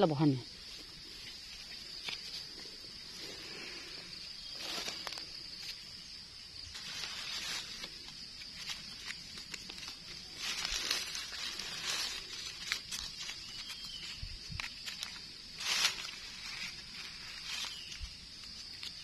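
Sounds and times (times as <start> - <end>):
dry leaves rustling: 0.5 - 19.0.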